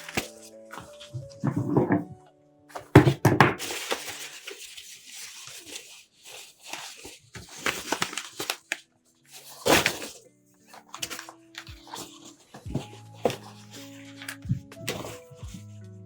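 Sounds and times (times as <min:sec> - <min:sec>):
bouquet wrapping crinkling: 0:00.0 - 0:02.1, 0:02.7 - 0:15.7.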